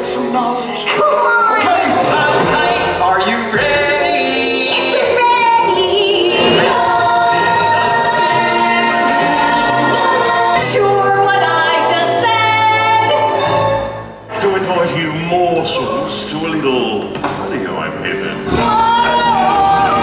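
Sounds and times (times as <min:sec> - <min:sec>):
chorus singing: 0:00.0 - 0:20.0.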